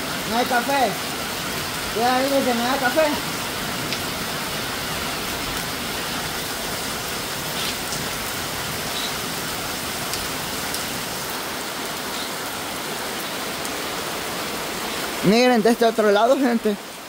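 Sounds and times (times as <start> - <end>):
heavy rain hiss: 0.0 - 17.0
raindrops ticking: 0.2 - 14.0.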